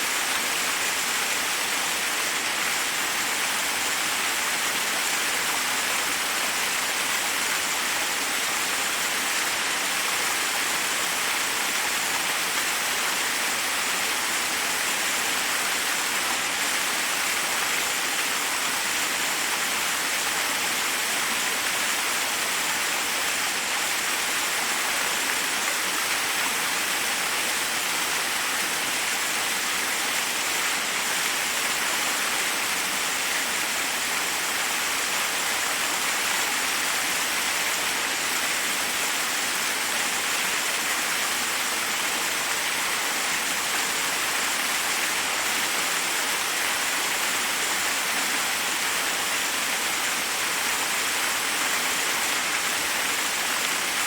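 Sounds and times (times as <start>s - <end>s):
waterfall onto rocks: 0.0s - 54.0s.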